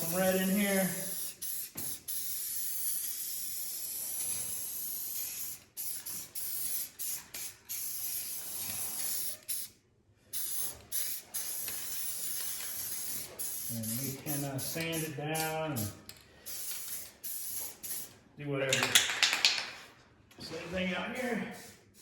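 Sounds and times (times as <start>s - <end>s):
spray paint can hissing: 0.0s - 15.9s, 16.5s - 18.1s, 21.6s - 22.0s.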